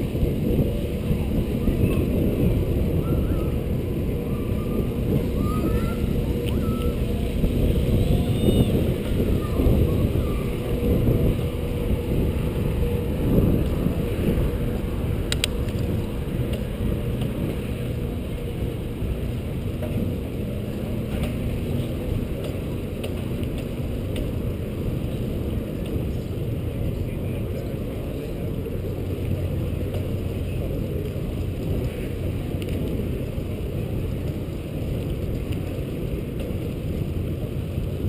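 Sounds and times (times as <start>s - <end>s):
bicycle tyres on paving stones: 0.0s - 38.0s
wind on microphone: 0.0s - 38.0s.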